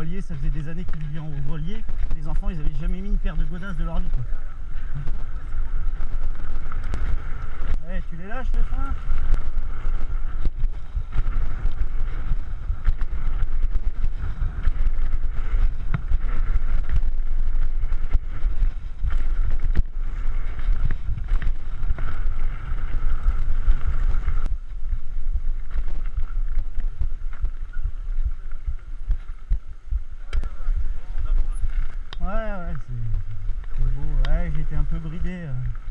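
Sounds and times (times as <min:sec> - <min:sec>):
bike rattling on gravel trail: 0:00.0 - 0:35.9
wind buffeting microphone: 0:00.0 - 0:35.9.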